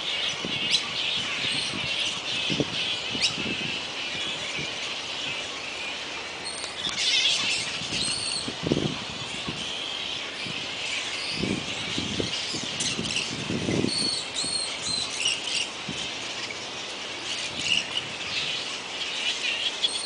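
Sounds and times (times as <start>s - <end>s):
flying foxes squeaking and chattering: 0.0s - 20.0s.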